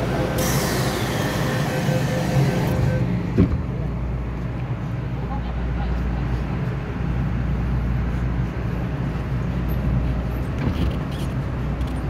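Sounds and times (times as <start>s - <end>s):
electric train rumble and hum: 0.0s - 12.0s.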